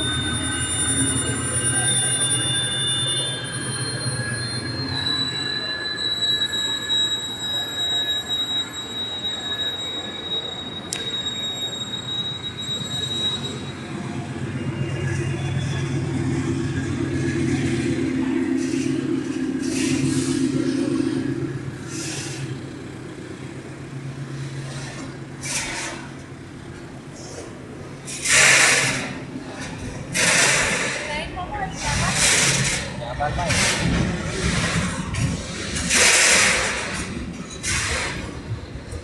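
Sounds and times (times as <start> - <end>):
train running gear rumble: 0.0 - 39.0
train wheel squeal: 0.0 - 39.0.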